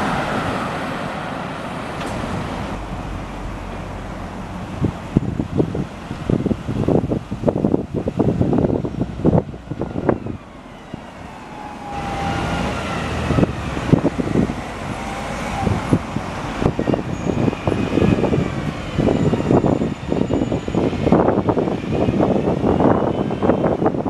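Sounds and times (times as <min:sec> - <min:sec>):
diesel buses passing: 0:00.0 - 0:24.0
wind buffeting microphone: 0:00.0 - 0:24.0.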